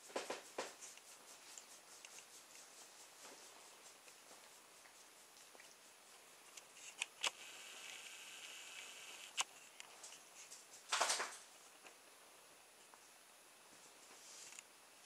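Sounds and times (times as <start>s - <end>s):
soft rustling and handling noise: 0.1s - 14.8s.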